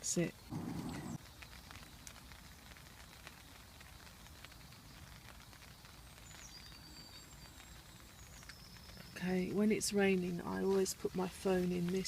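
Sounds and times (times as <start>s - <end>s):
light rain on tent: 0.0s - 12.0s.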